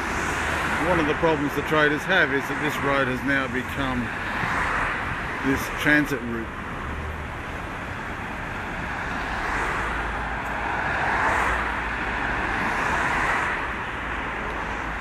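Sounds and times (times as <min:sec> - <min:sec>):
cars passing close by: 0:00.0 - 0:15.0.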